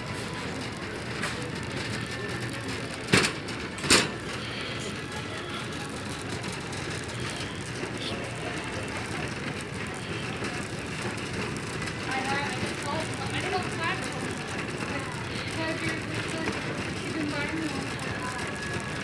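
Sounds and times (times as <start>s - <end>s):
store background rumble: 0.0s - 19.0s.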